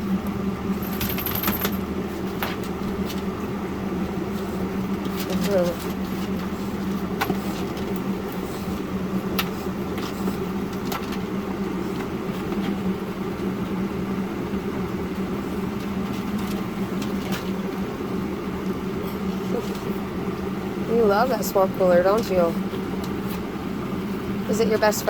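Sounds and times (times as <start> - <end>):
cooler fan and motor hum: 0.0 - 25.0.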